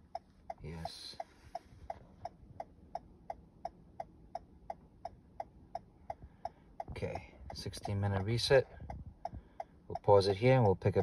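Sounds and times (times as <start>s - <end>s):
car hazard flasher ticking: 0.0s - 11.0s.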